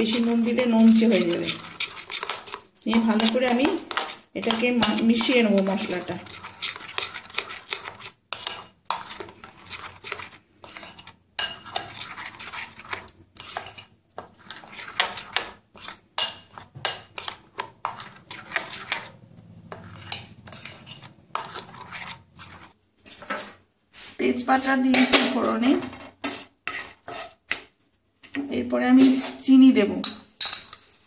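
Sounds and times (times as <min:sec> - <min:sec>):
spoon scraping and clinking glass bowl: 0:00.0 - 0:23.6, 0:29.0 - 0:30.8.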